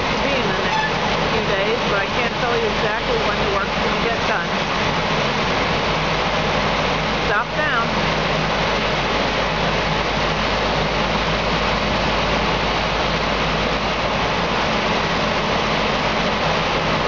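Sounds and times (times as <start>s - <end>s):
excavator diesel engine idling: 0.0s - 17.0s.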